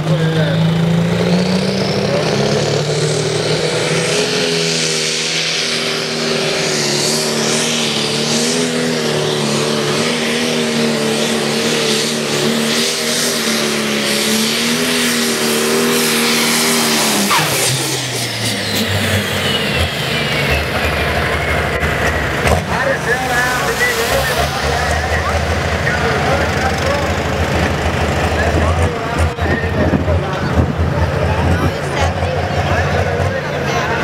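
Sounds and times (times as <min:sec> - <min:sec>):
strong engine hiss: 0:00.0 - 0:34.0
tractor diesel engine at full throttle: 0:00.0 - 0:34.0.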